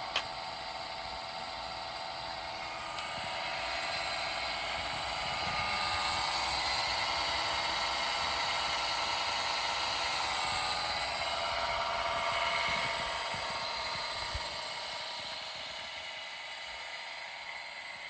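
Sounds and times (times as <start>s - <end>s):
motorised roller drive whine: 0.0s - 18.0s.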